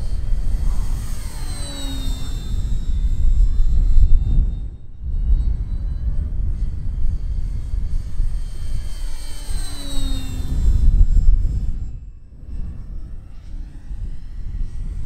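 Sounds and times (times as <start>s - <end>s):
model plane motor whining: 0.0s - 15.0s
wind rumbling on microphone: 0.0s - 15.0s.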